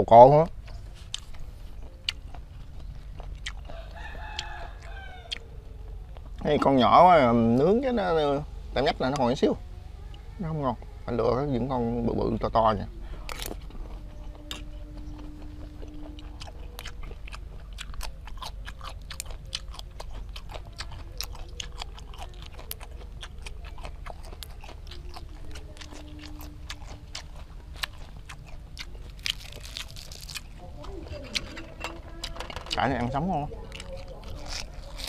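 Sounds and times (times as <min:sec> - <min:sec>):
close-up chewing with mouth clicks: 0:00.4 - 0:06.7, 0:12.4 - 0:35.0.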